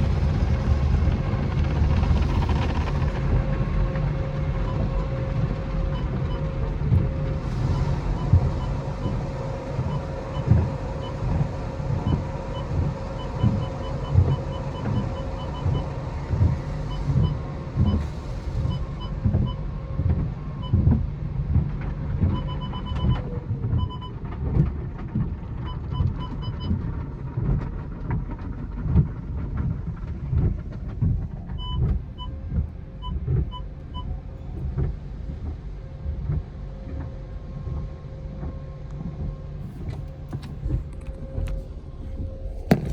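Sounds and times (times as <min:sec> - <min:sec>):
car wash machinery rumbling: 0:00.0 - 0:42.9.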